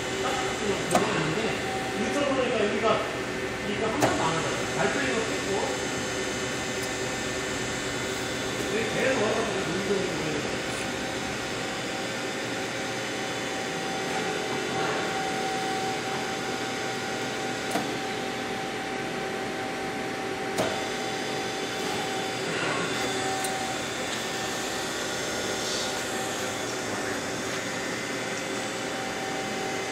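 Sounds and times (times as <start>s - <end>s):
electric motor hum with whine: 0.0s - 29.9s.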